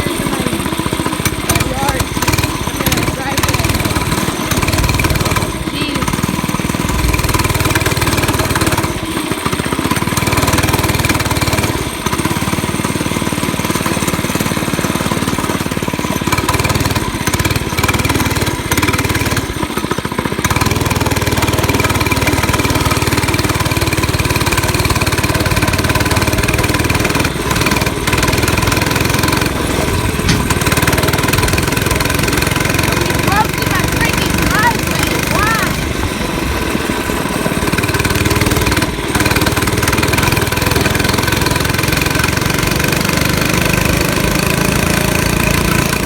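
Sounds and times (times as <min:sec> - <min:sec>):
small gas engine running: 0:00.0 - 0:46.0.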